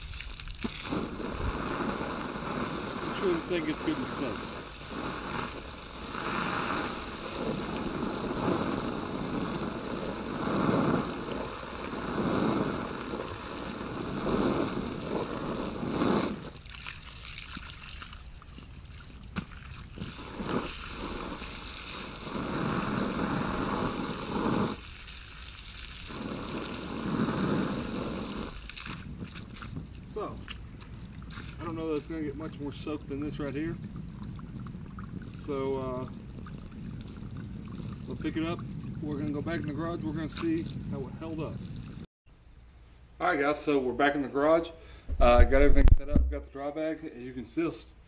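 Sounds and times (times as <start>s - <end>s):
hose spray hissing and splashing: 0.0s - 42.1s.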